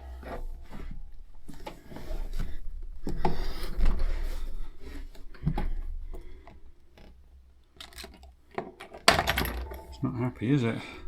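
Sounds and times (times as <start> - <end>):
handling rubbing and scraping: 0.0 - 10.8.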